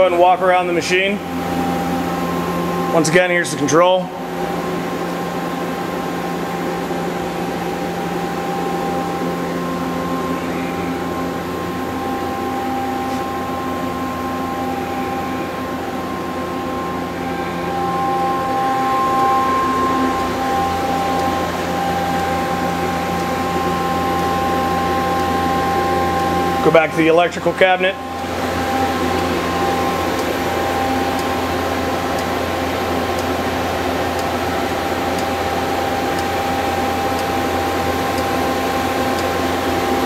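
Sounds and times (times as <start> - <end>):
machine mechanical hum: 0.0 - 40.0
steady whining tones: 0.0 - 40.0.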